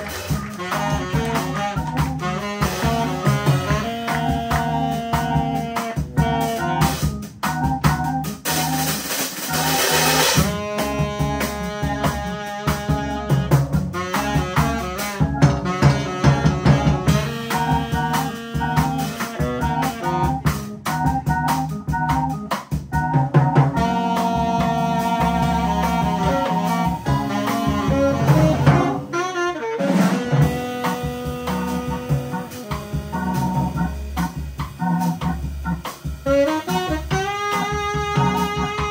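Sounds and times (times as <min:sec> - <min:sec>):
organ: 0:00.0 - 0:29.1, 0:30.0 - 0:38.9
drum beat: 0:00.0 - 0:38.9
live jazz band: 0:00.0 - 0:38.9
saxophone melody: 0:00.0 - 0:38.9.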